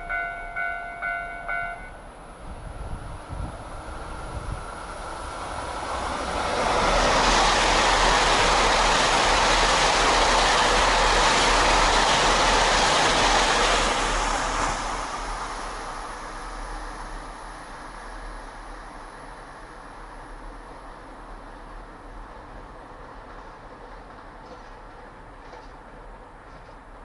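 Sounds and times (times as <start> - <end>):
train rushing past on rails: 0.0 - 27.0.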